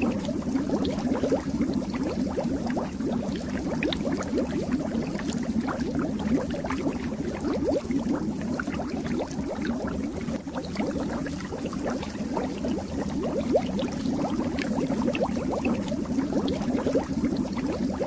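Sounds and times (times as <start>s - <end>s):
fish tank water bubbling: 0.0s - 18.0s.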